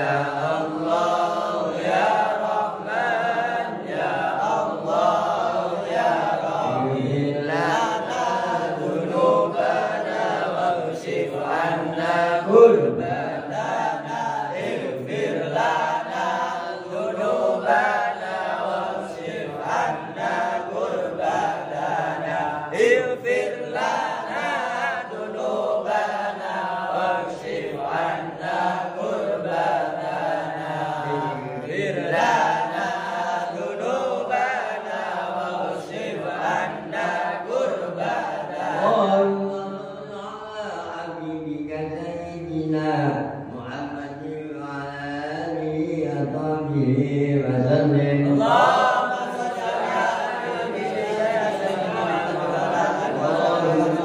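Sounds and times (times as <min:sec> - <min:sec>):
man chanting recitation: 0:00.0 - 0:54.0.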